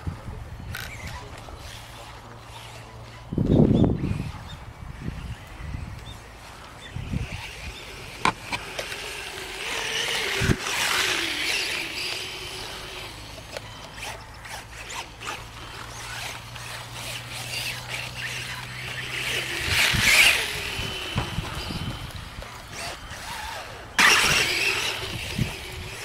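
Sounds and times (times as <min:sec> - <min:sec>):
electric motor whining: 0:00.7 - 0:26.0.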